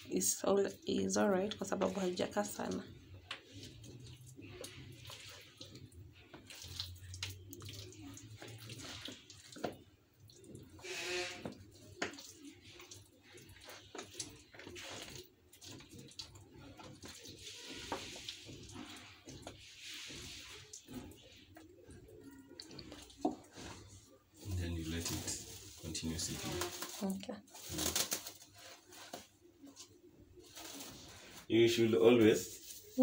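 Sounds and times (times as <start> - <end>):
chicken frying in oil: 0.0 - 27.0.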